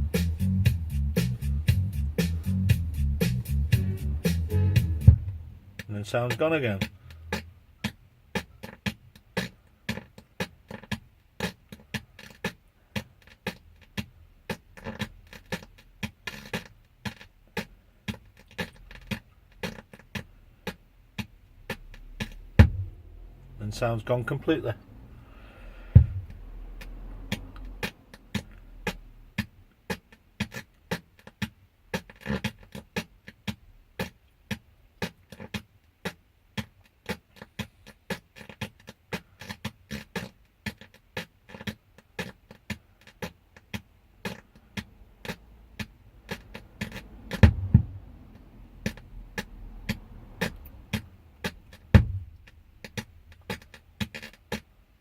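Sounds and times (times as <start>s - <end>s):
thin clicking beat from speakers: 0.0s - 23.0s, 25.8s - 55.0s.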